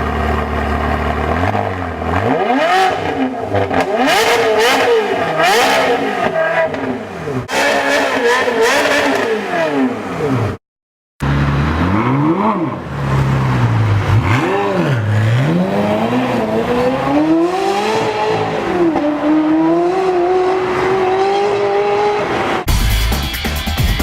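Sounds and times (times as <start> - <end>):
sports car engine revving: 0.2 - 10.6, 11.2 - 22.7.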